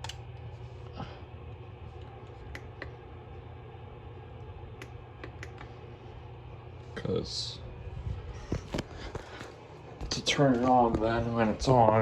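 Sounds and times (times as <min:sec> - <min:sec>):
room tone hum: 0:00.0 - 0:12.0.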